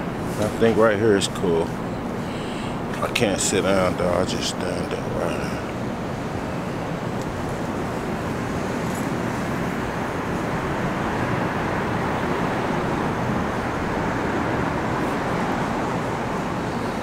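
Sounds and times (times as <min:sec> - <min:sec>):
city traffic noise: 0:00.0 - 0:17.0.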